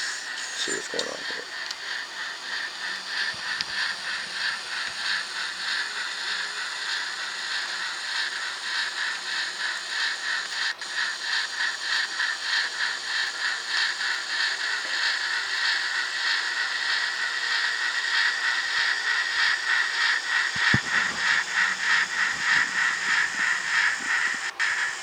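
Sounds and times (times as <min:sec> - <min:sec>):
steam locomotive chuffs with hiss: 0:00.0 - 0:25.0.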